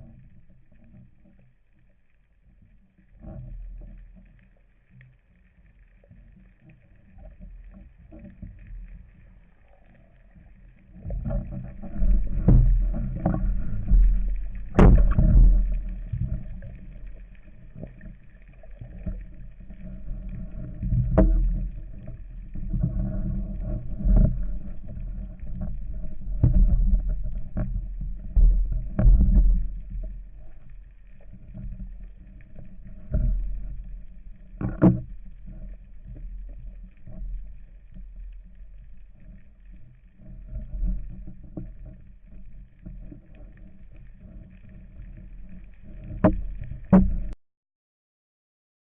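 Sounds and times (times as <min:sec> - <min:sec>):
muffled water sloshing: 0:00.0 - 0:47.4.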